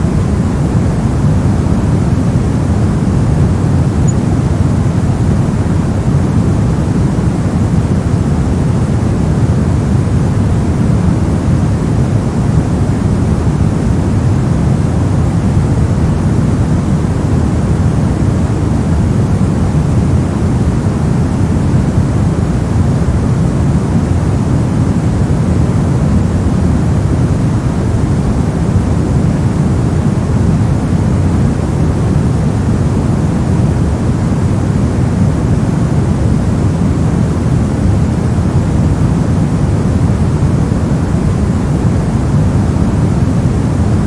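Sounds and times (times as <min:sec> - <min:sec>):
deep white noise: 0:00.0 - 0:44.0.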